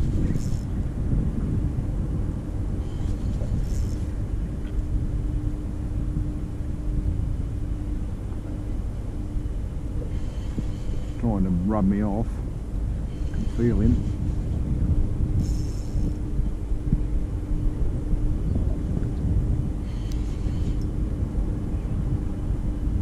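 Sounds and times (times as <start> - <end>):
faint motor hum: 0.0 - 23.0
wind buffeting microphone: 0.0 - 23.0.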